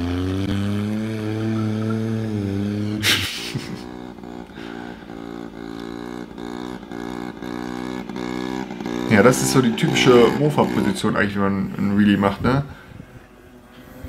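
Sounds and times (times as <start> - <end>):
car engine running: 0.0 - 12.8
distant moped engine: 0.0 - 14.0.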